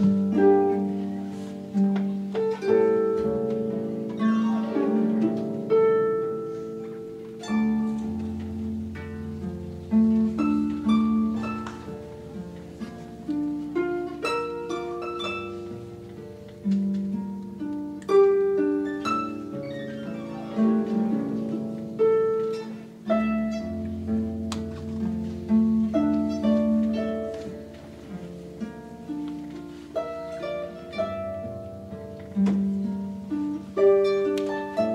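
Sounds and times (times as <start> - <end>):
harp playing slow melody: 0.0 - 34.9.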